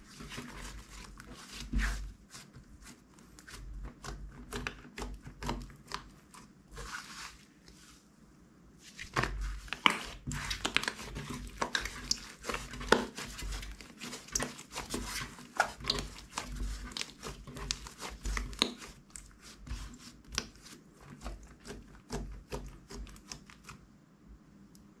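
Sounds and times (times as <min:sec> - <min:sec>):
slime squishing: 0:00.0 - 0:07.9, 0:08.9 - 0:23.8.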